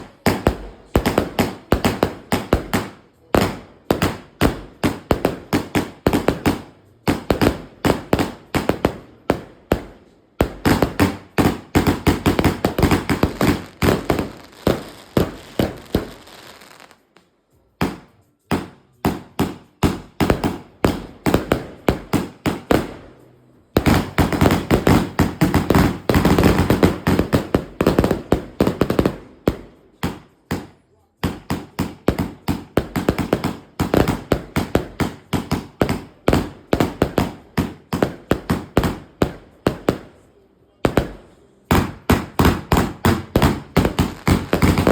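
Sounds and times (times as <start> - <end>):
firework barrage bangs: 0.0 - 16.9, 17.8 - 40.3, 40.9 - 44.9.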